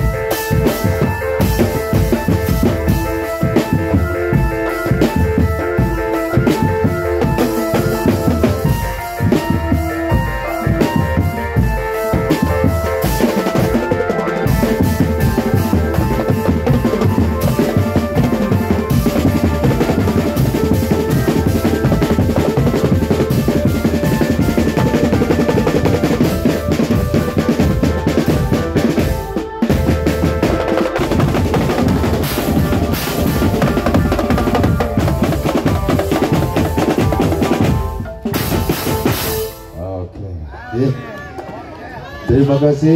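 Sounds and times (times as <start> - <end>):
bass and snare drums beating: 0.0 - 39.8
melody over drums: 0.0 - 40.0.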